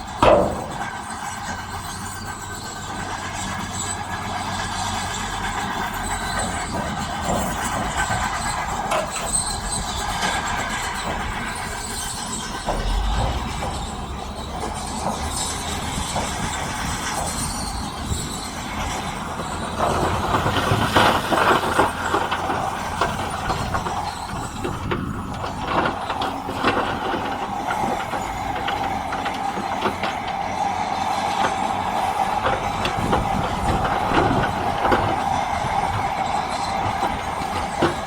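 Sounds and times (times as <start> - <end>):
metal and stone clanking: 0.0 - 2.5, 5.5 - 38.0
heavy diesel engine under load: 0.0 - 38.0.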